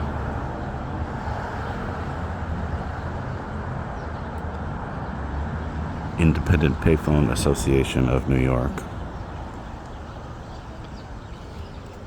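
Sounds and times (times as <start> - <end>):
rumble of passing traffic: 0.0 - 12.0.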